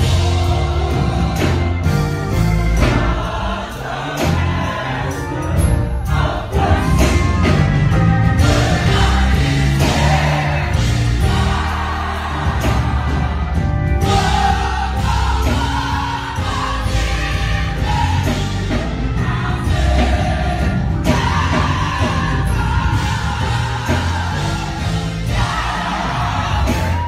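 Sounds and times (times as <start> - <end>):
gospel choir singing: 0.0 - 27.0
instrumental accompaniment: 0.0 - 27.0.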